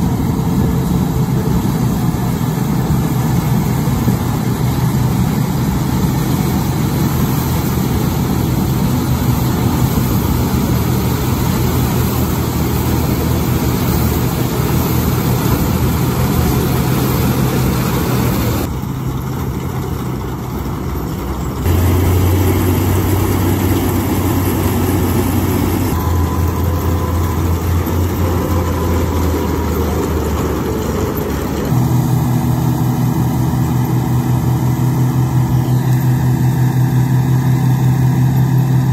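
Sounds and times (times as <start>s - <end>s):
combine engine running: 0.0s - 38.9s.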